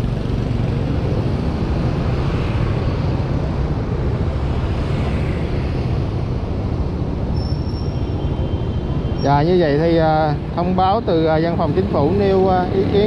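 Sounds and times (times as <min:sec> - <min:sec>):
steady low traffic rumble: 0:00.0 - 0:13.0.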